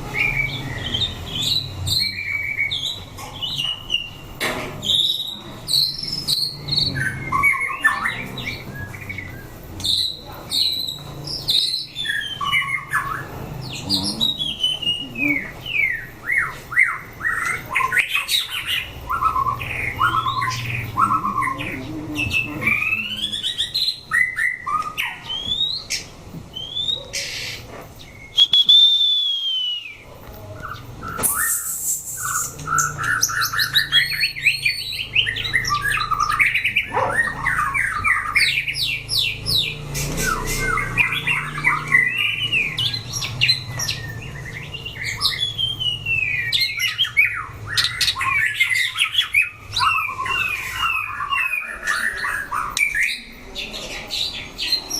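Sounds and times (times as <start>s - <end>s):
birds singing whistles and chatter: 0.0s - 54.9s.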